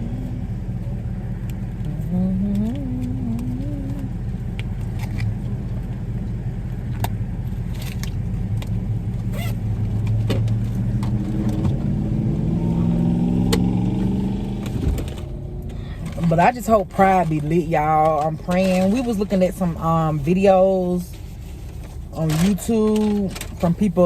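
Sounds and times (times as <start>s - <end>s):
car engine accelerating: 0.0s - 24.0s
road rumble: 0.0s - 24.0s.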